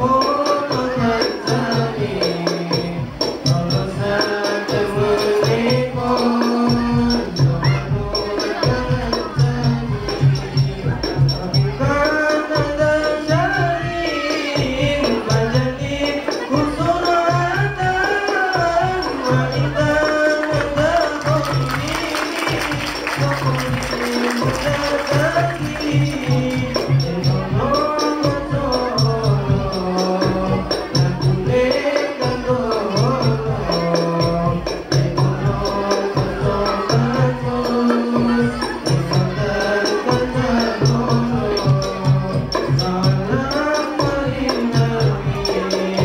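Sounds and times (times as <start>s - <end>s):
person singing melody: 0.0s - 46.0s
tambourine jingles: 8.1s - 46.0s.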